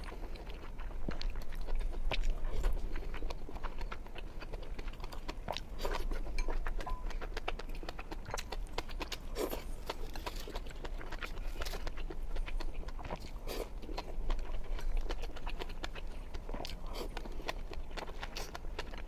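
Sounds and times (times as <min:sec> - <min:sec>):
close chewing and eating: 0:00.0 - 0:19.0.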